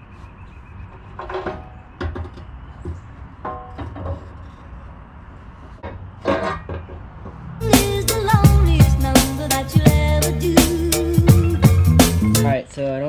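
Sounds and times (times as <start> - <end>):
metal exhaust clanking and scraping: 0.9 - 12.5.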